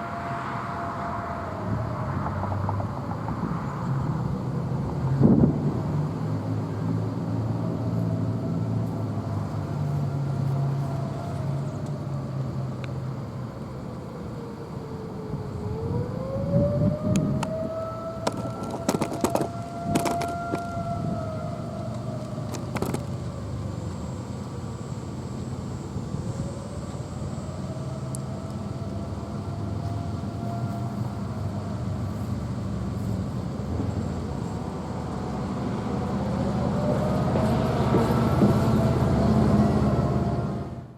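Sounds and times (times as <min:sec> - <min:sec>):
mechanical siren wailing: 0:00.0 - 0:40.9.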